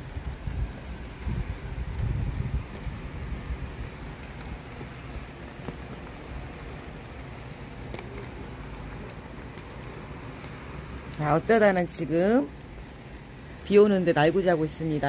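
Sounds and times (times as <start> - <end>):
heavy rain pouring: 0.0 - 15.0
raindrops tapping surfaces: 0.0 - 15.0.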